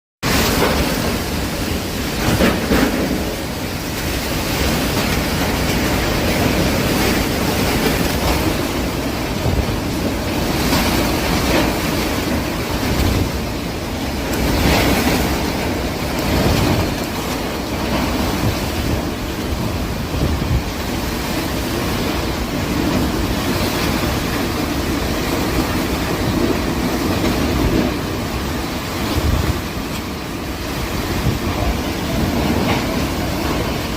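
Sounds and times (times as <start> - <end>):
storm wind buffeting microphone: 0.2 - 33.9.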